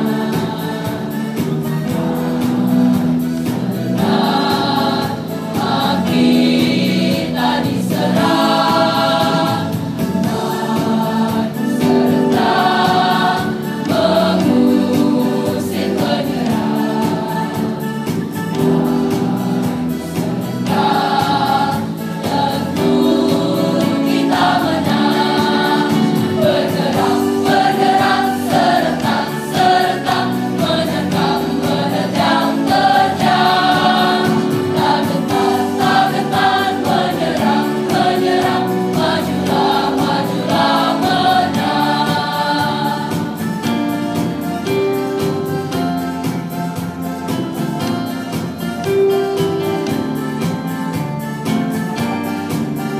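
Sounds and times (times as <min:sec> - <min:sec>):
choir singing: 0:00.0 - 0:49.2
electronic keyboard: 0:00.0 - 0:52.9.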